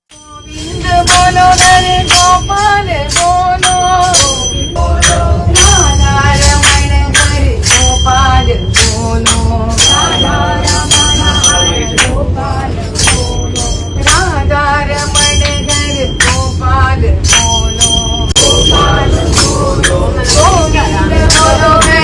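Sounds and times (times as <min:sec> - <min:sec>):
jingling percussive beat: 0:00.1 - 0:22.0
group singing devotional song: 0:00.2 - 0:22.0
train rumble: 0:00.2 - 0:22.0.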